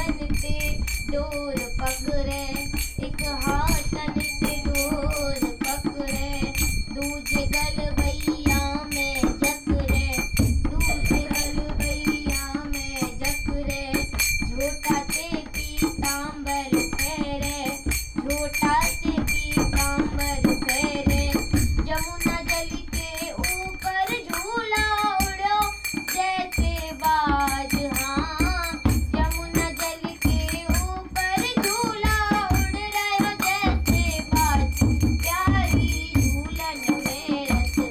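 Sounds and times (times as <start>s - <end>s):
girl singing: 0.0s - 37.9s.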